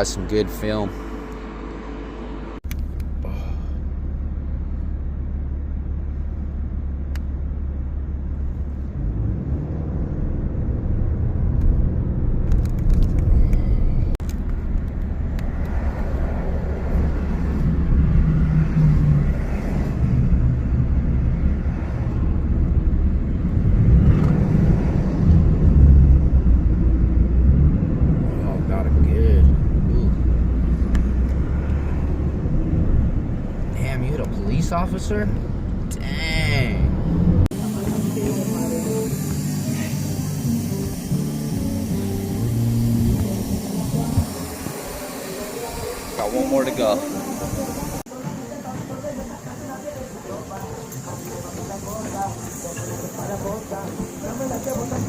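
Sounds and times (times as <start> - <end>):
vehicle driving rumble: 0.0 - 55.0.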